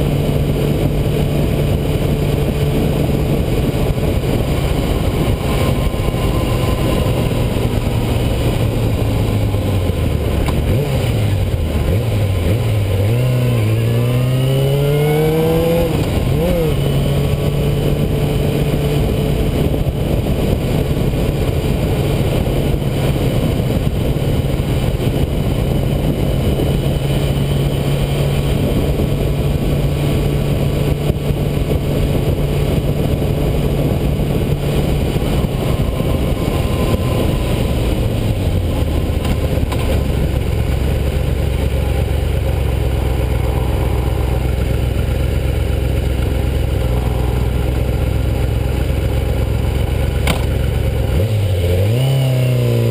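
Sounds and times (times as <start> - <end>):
motorcycle engine running: 0.0 - 52.9
wind rushing on microphone: 0.0 - 52.9.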